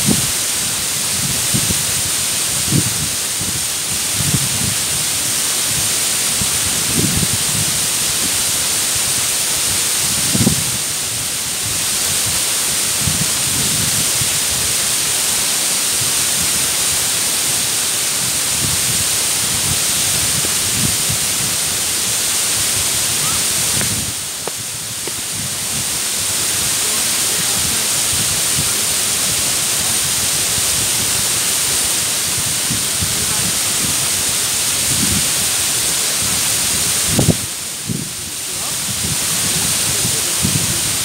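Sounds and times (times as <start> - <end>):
waterfall rushing roar: 0.0 - 41.0.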